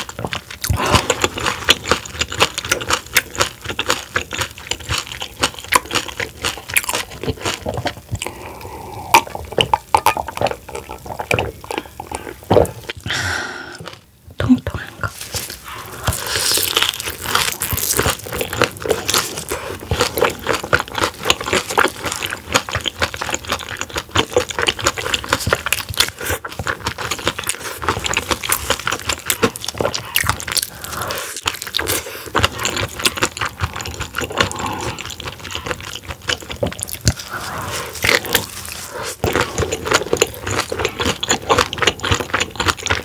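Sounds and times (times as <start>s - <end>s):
crunching and chewing fried food: 0.0s - 14.2s, 15.0s - 43.0s.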